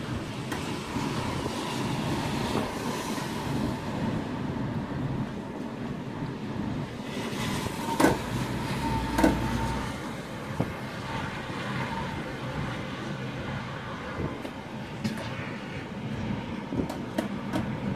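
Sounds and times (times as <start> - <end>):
storm wind rushing and rumbling: 0.0 - 17.9.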